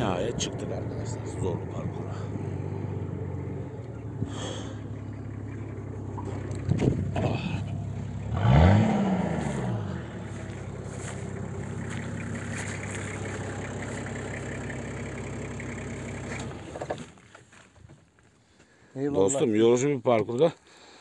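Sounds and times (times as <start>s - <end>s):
car engine revving: 0.0s - 17.2s.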